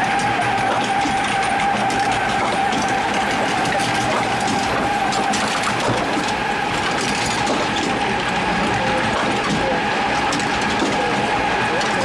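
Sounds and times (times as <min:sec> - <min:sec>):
machinery rattle and clatter: 0:00.0 - 0:12.0
ride machinery whine: 0:00.0 - 0:12.0.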